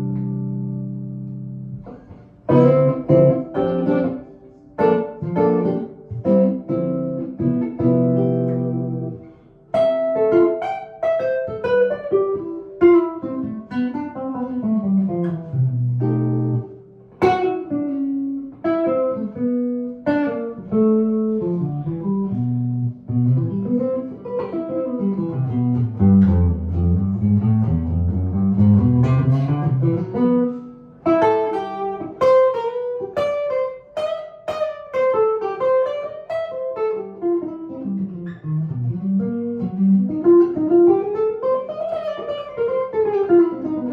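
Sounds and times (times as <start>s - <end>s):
electric guitar solo: 0.0s - 43.9s.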